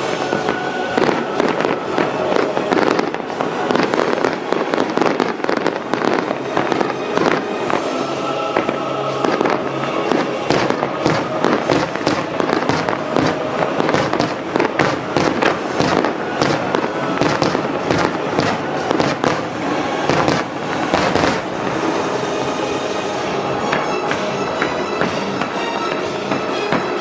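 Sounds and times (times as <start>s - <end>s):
fireworks bangs and crackle: 0.0s - 27.0s
music playing: 0.0s - 27.0s.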